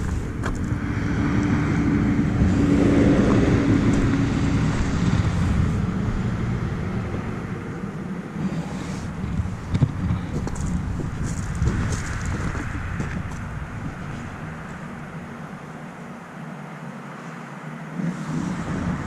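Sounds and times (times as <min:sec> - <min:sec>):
motor vehicle passing: 0:00.0 - 0:19.0
steady hum: 0:00.0 - 0:19.0.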